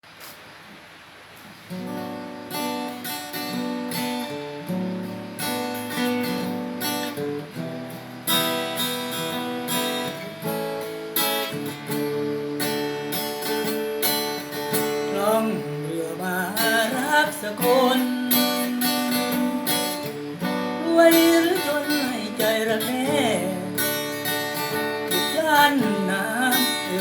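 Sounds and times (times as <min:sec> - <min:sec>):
acoustic guitar strumming chords: 0:01.6 - 0:27.0.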